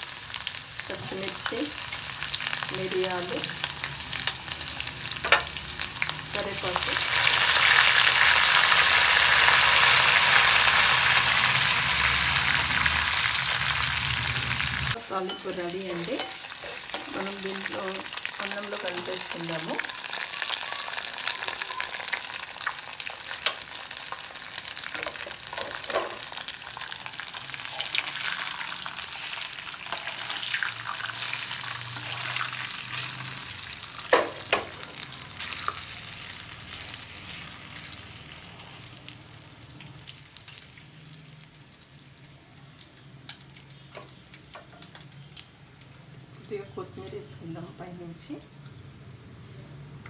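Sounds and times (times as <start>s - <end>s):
spices sizzling in hot oil: 0.0s - 50.0s.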